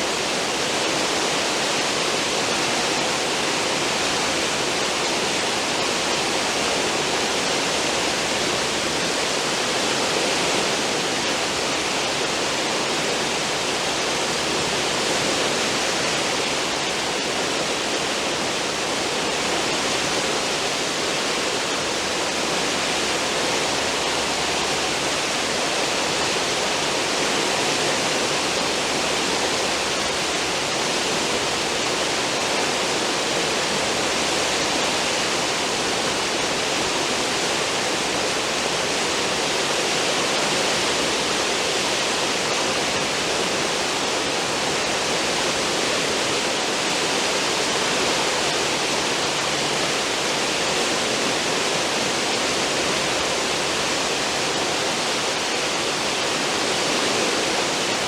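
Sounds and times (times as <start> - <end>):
ship wake water churning: 0.0 - 58.0.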